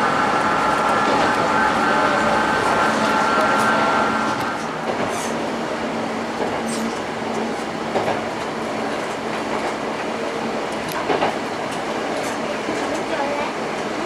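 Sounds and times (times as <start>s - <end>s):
railcar wheels rolling on rails: 0.0s - 14.0s.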